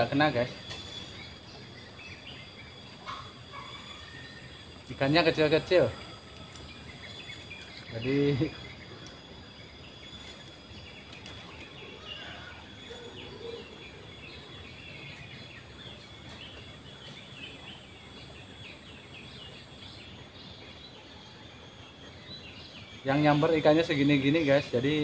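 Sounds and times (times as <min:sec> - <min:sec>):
high insect drone: 0:00.0 - 0:25.0
small birds chirping: 0:00.0 - 0:25.0.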